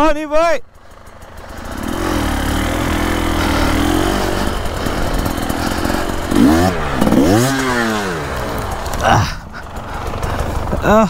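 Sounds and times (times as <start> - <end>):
dirt bike engine in mud: 0.7 - 11.0.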